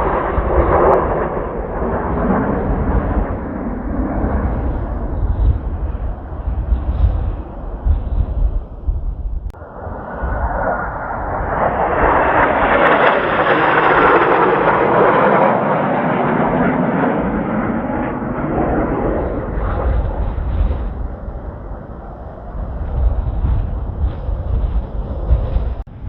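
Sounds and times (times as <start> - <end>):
jet aircraft roar: 0.0 - 26.0
wind buffeting microphone: 0.0 - 26.0.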